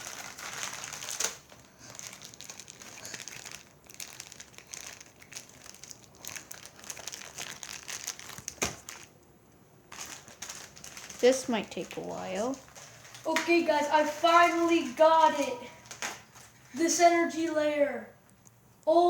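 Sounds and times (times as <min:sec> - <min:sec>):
plastic packaging crinkling: 0:00.0 - 0:17.6.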